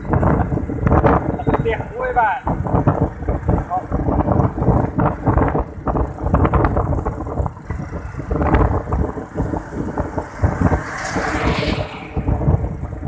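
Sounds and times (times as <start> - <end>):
vehicle rumbling: 0.0 - 13.0
wind buffeting microphone: 0.0 - 13.0.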